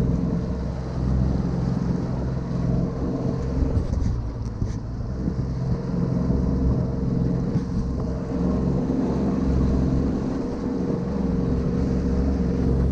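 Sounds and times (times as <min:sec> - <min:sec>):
water noise: 0:00.0 - 0:12.9
wind: 0:00.0 - 0:12.9.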